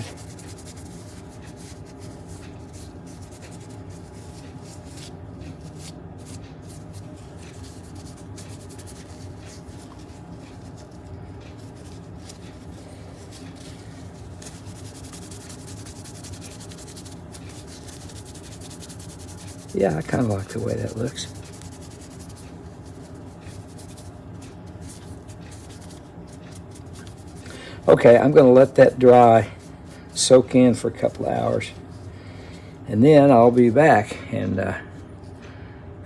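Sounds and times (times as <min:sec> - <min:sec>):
cloth rubbing on wood: 0:00.0 - 0:32.1
steady low hum: 0:00.0 - 0:36.0.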